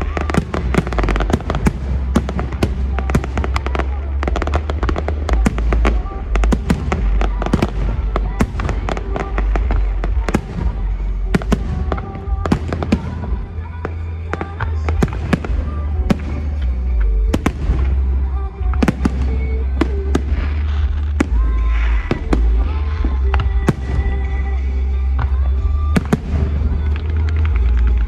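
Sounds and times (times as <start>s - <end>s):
fireworks cracks and bangs: 0.0s - 28.0s
music playing: 0.0s - 28.0s.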